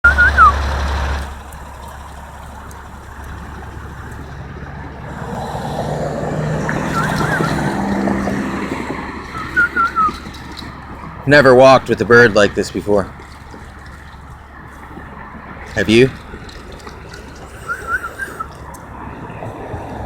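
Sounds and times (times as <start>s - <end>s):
motor vehicle passing: 0.0s - 20.0s.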